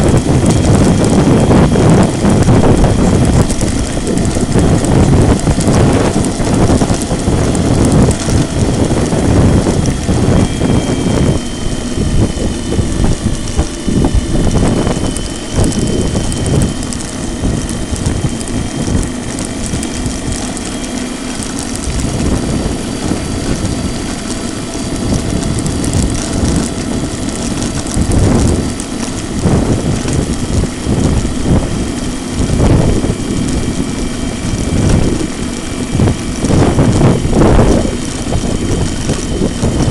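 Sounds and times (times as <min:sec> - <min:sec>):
electric motor whine: 0:00.0 - 0:39.9
wind buffeting microphone: 0:00.0 - 0:39.9.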